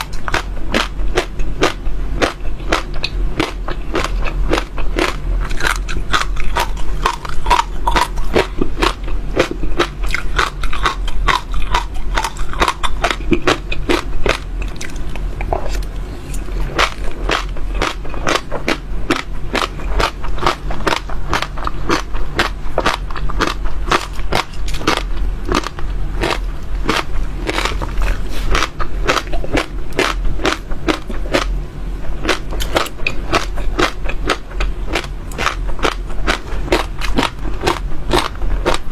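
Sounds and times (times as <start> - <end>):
chewing crunchy seeds: 0.0 - 38.9.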